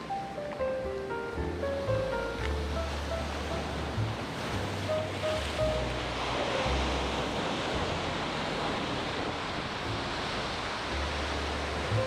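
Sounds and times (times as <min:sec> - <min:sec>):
sea surf washing ashore: 0:00.0 - 0:12.0
wind: 0:00.0 - 0:12.0.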